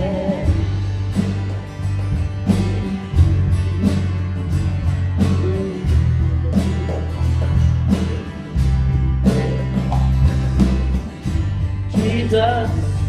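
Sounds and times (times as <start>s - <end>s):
electric bass guitar: 0.0s - 13.0s
guitar: 0.0s - 13.0s
slow drum beat: 0.0s - 13.0s.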